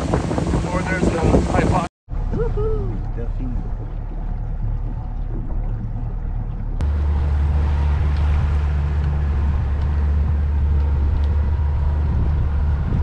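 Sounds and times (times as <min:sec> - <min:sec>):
outboard motor droning: 0:00.0 - 0:13.0
sea and wind noise: 0:00.0 - 0:13.0.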